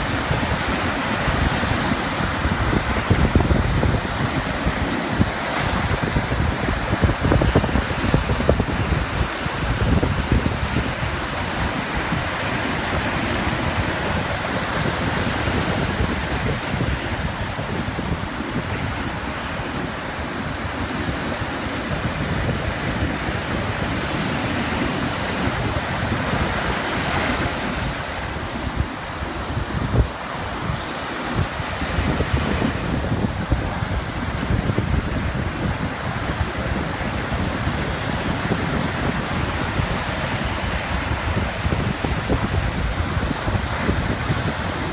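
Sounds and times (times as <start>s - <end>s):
ocean waves on beach: 0.0s - 44.9s
wind buffeting microphone: 0.0s - 44.9s.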